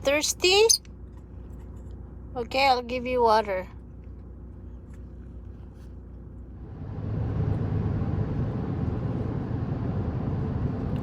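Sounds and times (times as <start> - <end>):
road noise inside moving car: 0.0 - 11.0.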